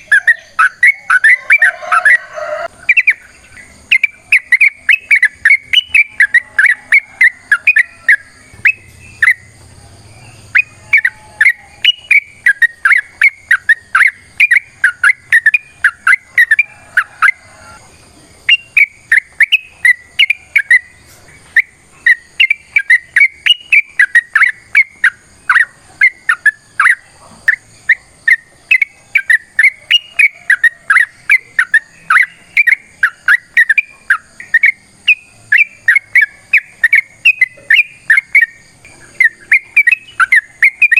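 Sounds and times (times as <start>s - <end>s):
bird singing whistled chirps: 0.0s - 40.9s.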